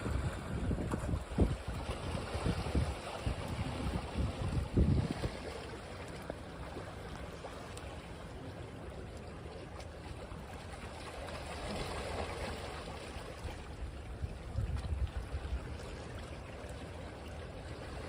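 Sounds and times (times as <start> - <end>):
small waves washing on a beach: 0.0 - 18.0.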